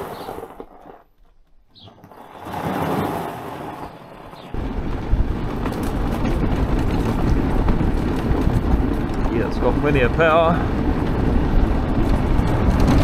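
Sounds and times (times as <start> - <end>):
tyre noise on dirt track: 0.0 - 13.0
tyres crunching on gravel: 0.0 - 13.0
wind buffeting: 1.8 - 13.0.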